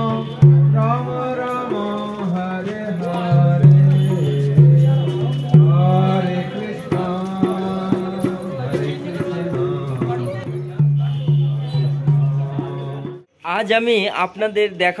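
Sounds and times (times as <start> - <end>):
man singing chant: 0.0 - 13.2.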